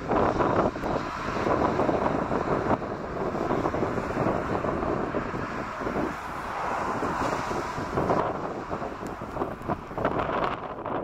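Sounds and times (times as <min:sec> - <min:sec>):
jet engines rumbling: 0:00.0 - 0:11.0
wind buffeting microphone: 0:00.0 - 0:11.0.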